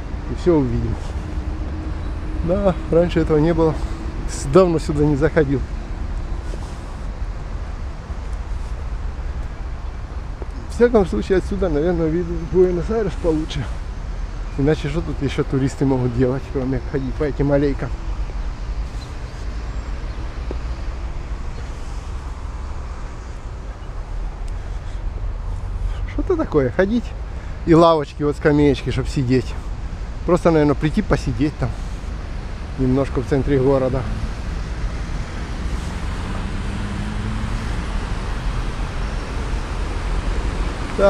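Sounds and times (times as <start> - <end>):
city road traffic rumble: 0.0 - 41.0
faint engine hum: 0.0 - 41.0.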